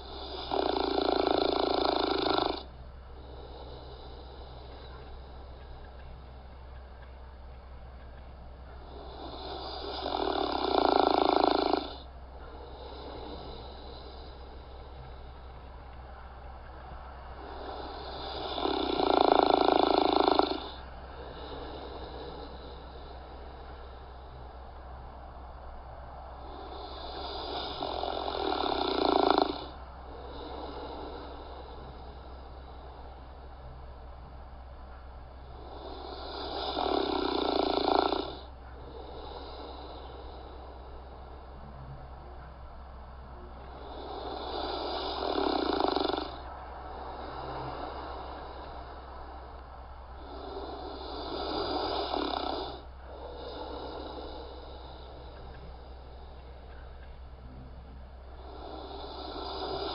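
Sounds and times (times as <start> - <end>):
person snoring: 0.0 - 5.5, 8.8 - 15.5, 17.3 - 24.7, 26.3 - 33.6, 35.4 - 41.9, 43.3 - 59.9
breathy hiss: 0.0 - 59.9.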